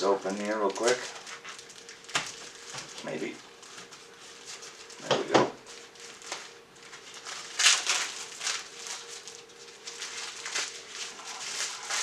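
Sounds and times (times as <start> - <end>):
faint steady hum: 0.0 - 12.0
rustling and crinkling packaging: 0.0 - 12.0.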